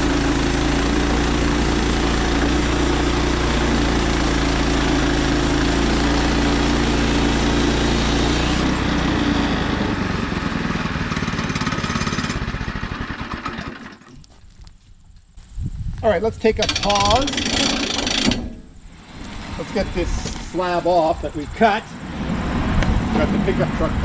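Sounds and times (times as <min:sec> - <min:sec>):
sawmill gas engine running: 0:00.0 - 0:14.2, 0:16.4 - 0:22.2.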